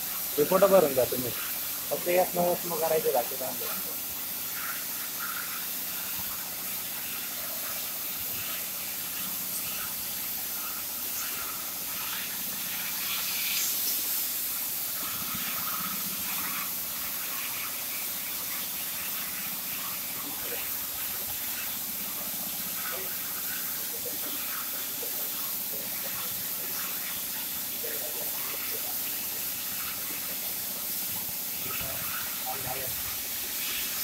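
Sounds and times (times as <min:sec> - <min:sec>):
cutting torch hissing: 0:00.0 - 0:34.0.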